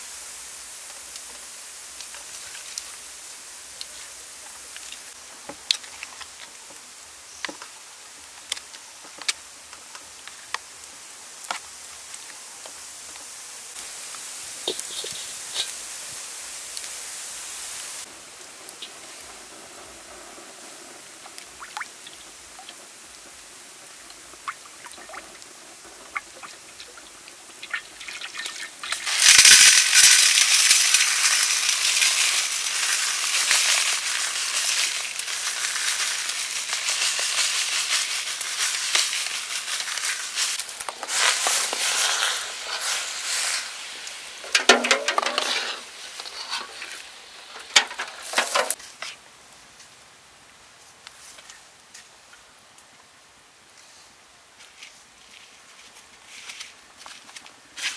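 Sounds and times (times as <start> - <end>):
food sizzling in wok: 0.0 - 49.1
faint crackles: 0.0 - 50.0, 50.7 - 57.9.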